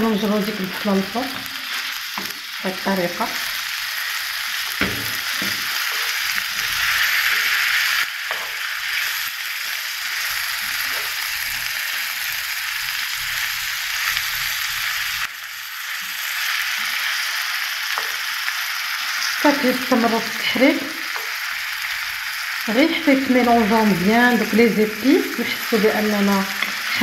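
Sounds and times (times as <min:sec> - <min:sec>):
meat sizzling in a frying pan: 0:00.0 - 0:27.0.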